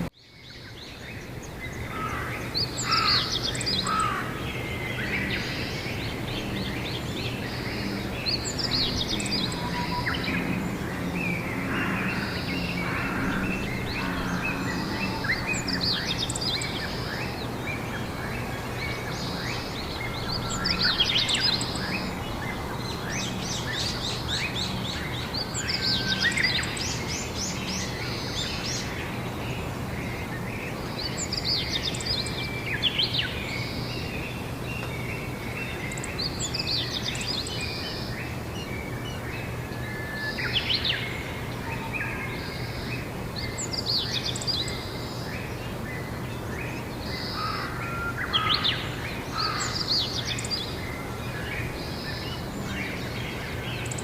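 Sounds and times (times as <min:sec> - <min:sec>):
songbirds trilling and chirping: 0:00.0 - 0:54.0.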